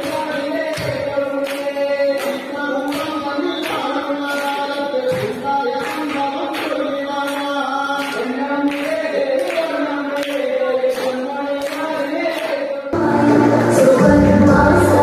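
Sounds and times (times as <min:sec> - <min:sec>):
chant-like song over beat: 0:00.0 - 0:15.0.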